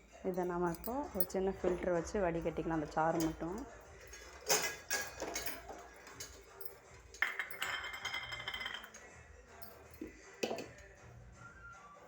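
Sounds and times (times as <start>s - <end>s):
utensils clinking and knocking: 0.3s - 10.8s.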